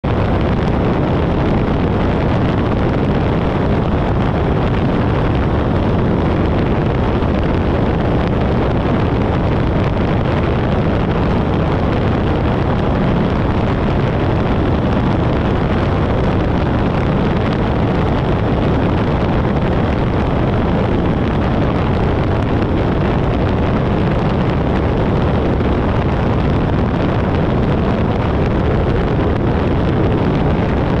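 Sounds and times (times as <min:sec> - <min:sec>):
aircraft engine noise: 0:00.0 - 0:31.0
wind rushing on microphone: 0:00.0 - 0:31.0.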